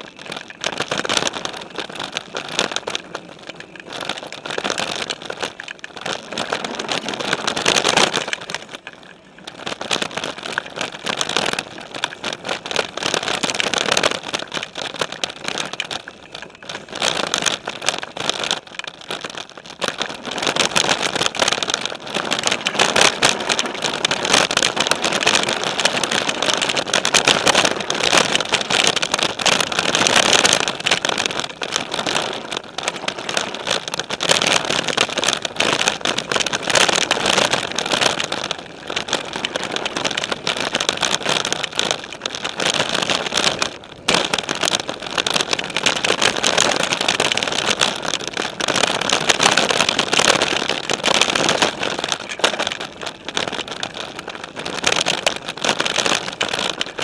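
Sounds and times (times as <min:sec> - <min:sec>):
bike rattling: 0:00.0 - 0:57.0
tyre and trail noise: 0:00.0 - 0:57.0.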